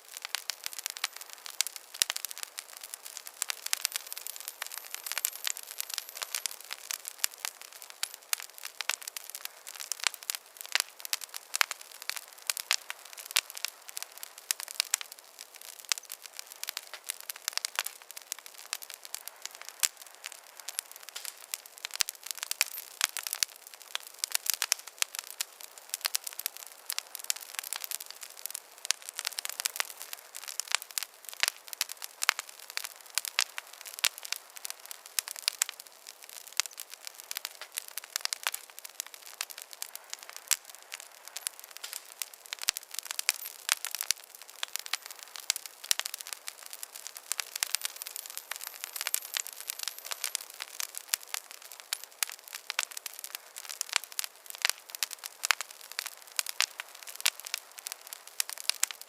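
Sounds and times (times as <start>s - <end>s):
campfire crackling and popping: 0.0s - 59.0s
hiss of burning wood: 0.0s - 59.0s.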